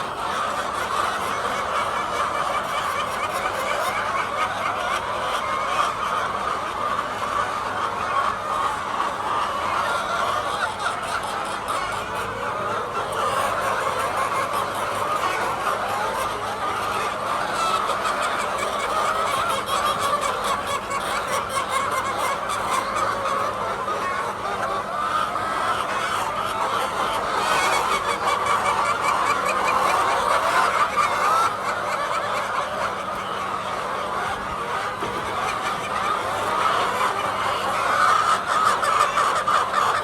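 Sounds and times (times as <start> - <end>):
hens clucking: 0.0 - 40.0.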